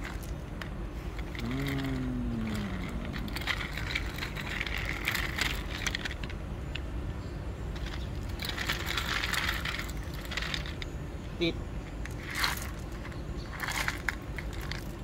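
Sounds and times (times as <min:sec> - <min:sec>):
gravel stones clattering: 0:00.0 - 0:06.9, 0:07.7 - 0:10.9, 0:11.9 - 0:15.0.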